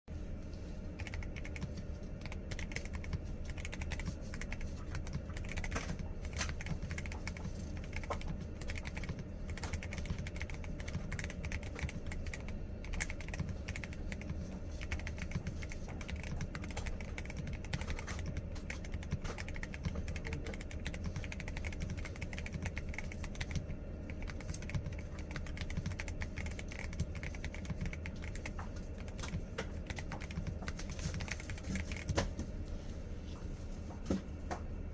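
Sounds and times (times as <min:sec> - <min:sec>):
mechanical keyboard typing: 0:01.0 - 0:32.2.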